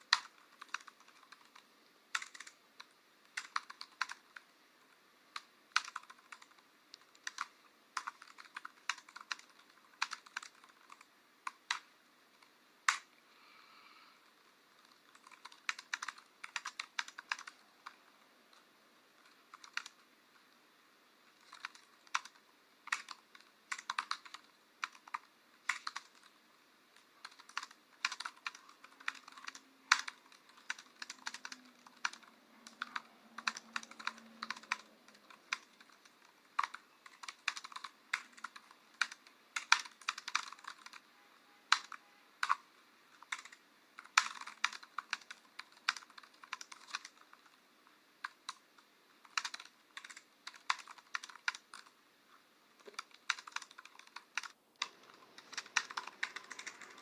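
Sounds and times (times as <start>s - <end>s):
keyboard typing: 0.0s - 13.2s, 13.8s - 20.6s, 21.2s - 47.6s, 48.2s - 52.0s, 52.8s - 57.0s.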